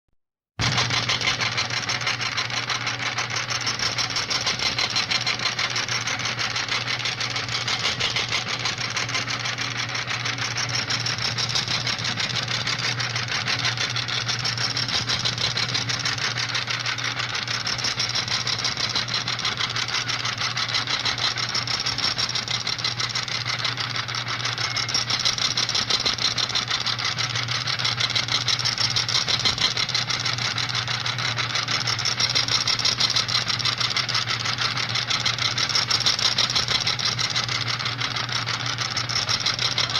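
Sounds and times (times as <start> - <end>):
printer whirring: 0.6 - 39.9.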